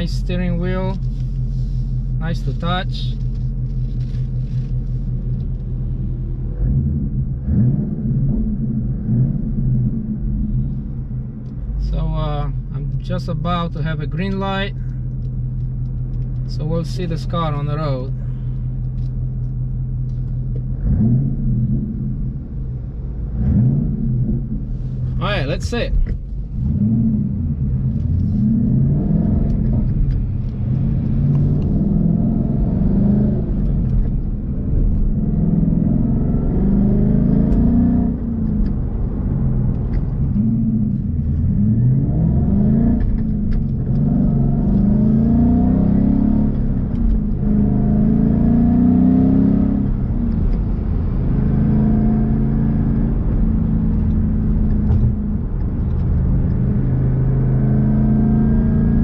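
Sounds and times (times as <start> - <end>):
car engine accelerating through gears: 0.0 - 13.1, 14.2 - 59.0.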